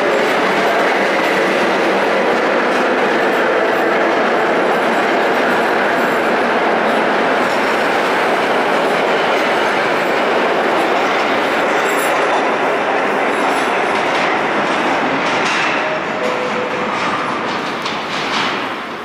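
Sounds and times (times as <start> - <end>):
subway train rumbling on rails: 0.0 - 19.0.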